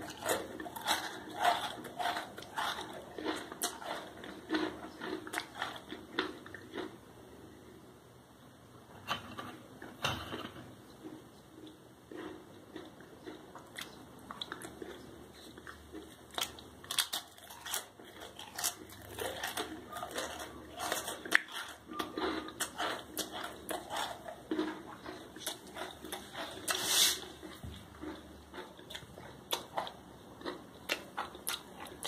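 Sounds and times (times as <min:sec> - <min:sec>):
person chewing crisp crackers: 0:00.0 - 0:07.0, 0:11.0 - 0:32.0.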